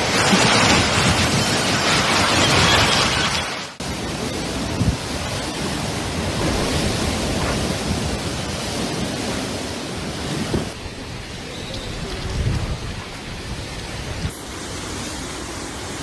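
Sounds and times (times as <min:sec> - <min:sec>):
rushing water with low rumble: 0:00.0 - 0:16.0.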